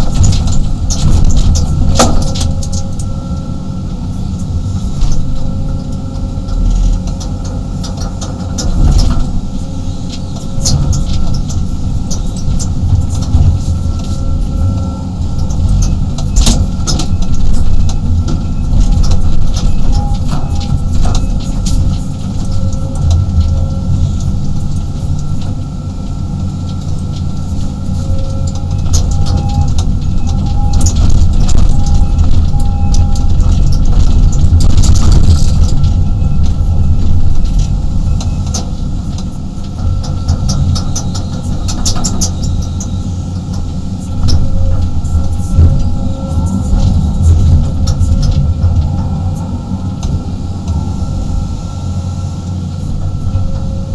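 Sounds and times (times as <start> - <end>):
excavator engine rumbling: 0.0 - 53.9.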